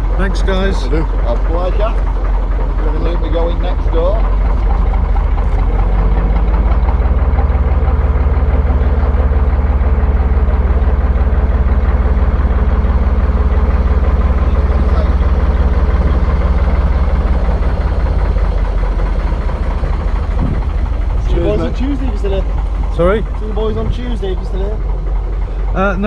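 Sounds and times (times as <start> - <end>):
diesel engine running at low revs: 0.0 - 26.0.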